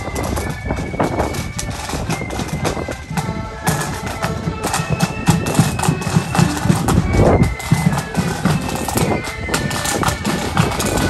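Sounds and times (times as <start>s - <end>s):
marching band playing: 0.0s - 11.0s
steady drumbeat: 0.0s - 11.0s.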